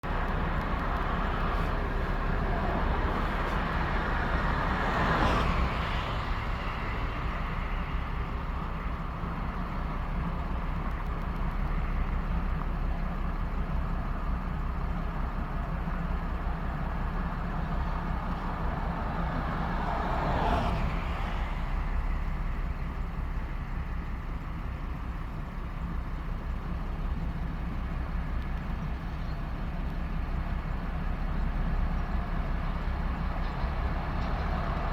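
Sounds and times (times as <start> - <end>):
low vehicle rumble: 0.0 - 34.9.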